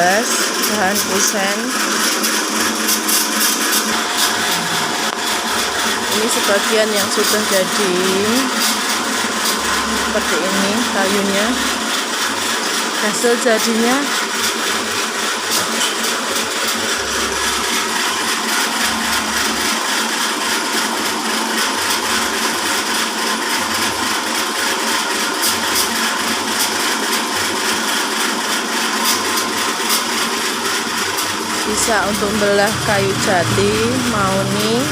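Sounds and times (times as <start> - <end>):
band sawmill running: 0.0 - 34.9.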